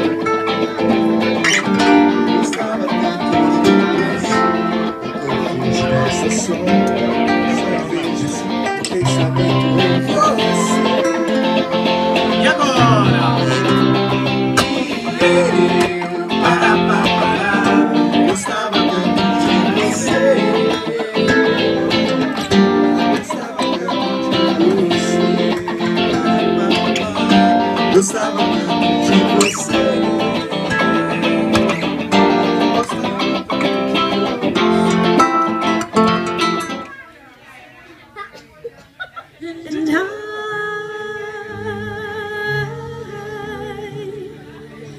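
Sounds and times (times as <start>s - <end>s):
strummed guitars: 0.0s - 37.2s, 38.8s - 44.9s
live band through speakers: 0.0s - 44.9s.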